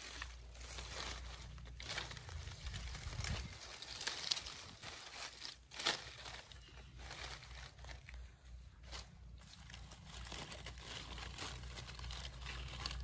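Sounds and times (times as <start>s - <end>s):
leafy branches rustling: 0.0s - 13.0s.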